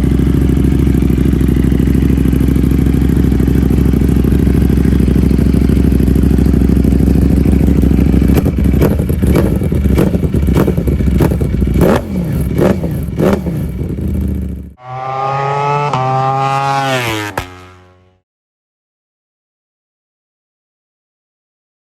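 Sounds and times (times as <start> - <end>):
motorcycle engine idling and revving: 0.0 - 18.2.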